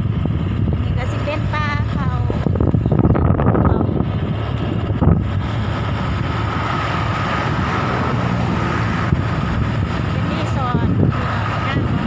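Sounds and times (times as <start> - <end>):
vehicle running: 0.0 - 12.0
wind buffeting microphone: 0.0 - 12.0.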